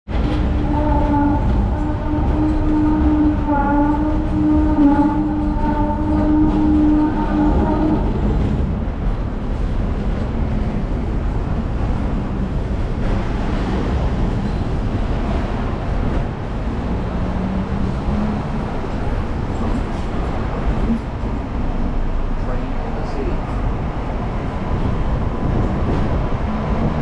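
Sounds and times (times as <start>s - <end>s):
tram humming tone: 0.1s - 27.0s
tram low rumble: 0.1s - 27.0s.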